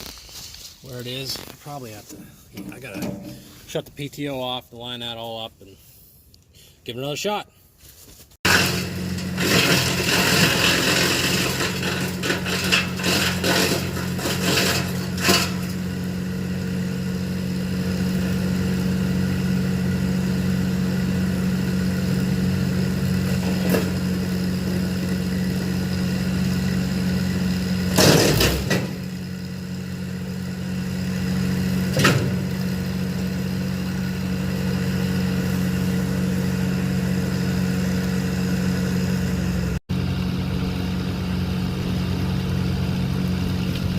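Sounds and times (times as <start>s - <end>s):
wood chipper cutting branches: 0.0s - 3.8s, 8.4s - 43.9s
tractor engine running: 0.0s - 4.9s, 8.4s - 43.9s.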